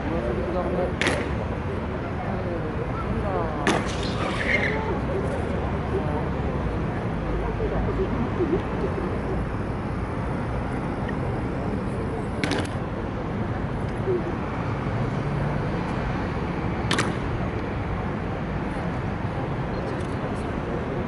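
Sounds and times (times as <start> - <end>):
faint voices: 0.0 - 16.7, 17.6 - 21.0
city traffic noise: 0.0 - 21.0.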